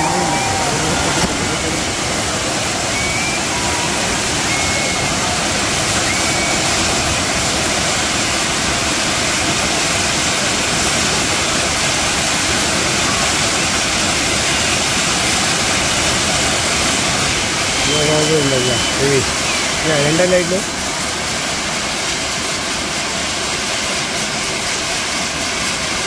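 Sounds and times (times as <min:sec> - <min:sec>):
firework fountains hissing: 0:00.0 - 0:26.0.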